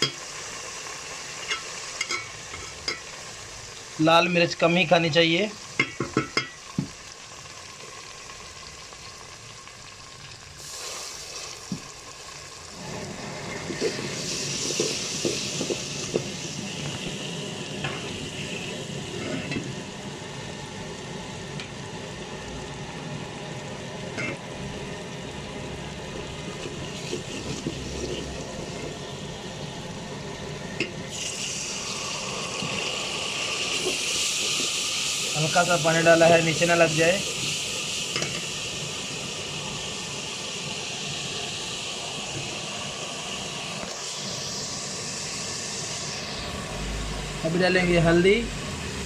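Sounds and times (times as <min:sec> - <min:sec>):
masala sizzling in a pot: 0:00.0 - 0:49.0.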